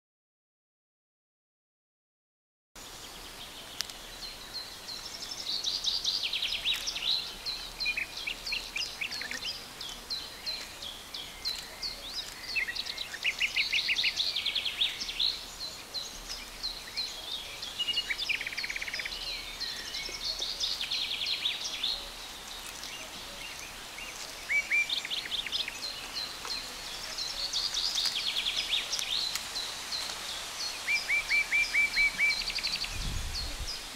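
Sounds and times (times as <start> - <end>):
faint steady hiss: 2.8 - 33.9
songbirds chirping and trilling: 2.8 - 33.9.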